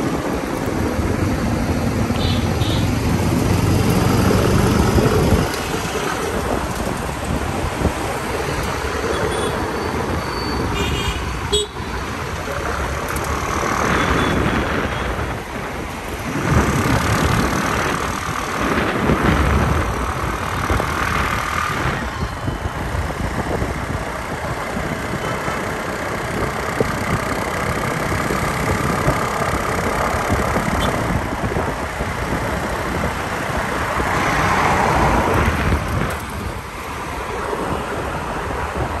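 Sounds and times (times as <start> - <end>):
road noise: 0.0 - 39.0.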